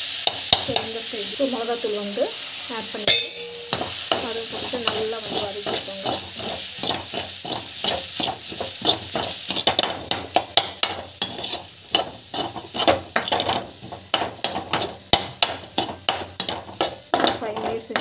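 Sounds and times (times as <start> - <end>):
oil sizzling: 0.0 - 18.0
spatula scraping frying pan: 2.5 - 18.0.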